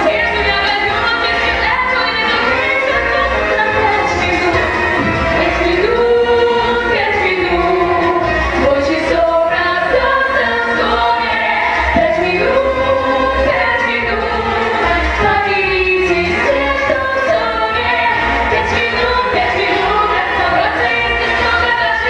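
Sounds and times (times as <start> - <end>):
vocal group singing in harmony: 0.0 - 22.0.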